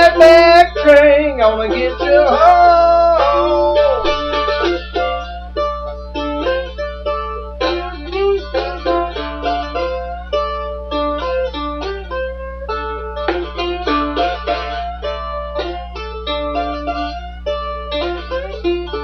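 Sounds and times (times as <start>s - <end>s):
slide guitar blues riff: 0.0s - 19.0s
steady low hum: 0.0s - 19.0s.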